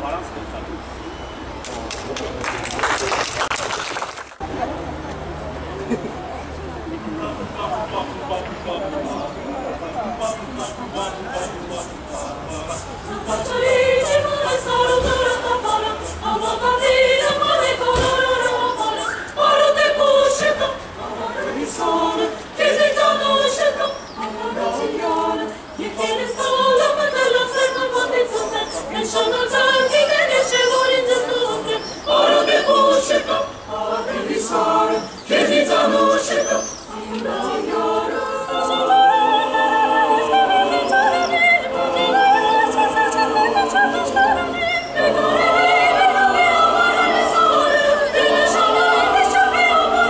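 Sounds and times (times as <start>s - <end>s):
choir singing a cappella: 7.0s - 50.0s.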